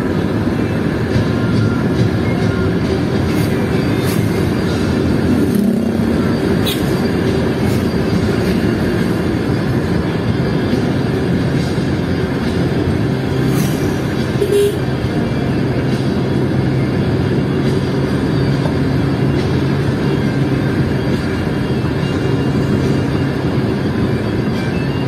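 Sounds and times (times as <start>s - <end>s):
engine hum: 0.0s - 25.0s
road noise: 0.0s - 25.0s
wind: 0.0s - 25.0s.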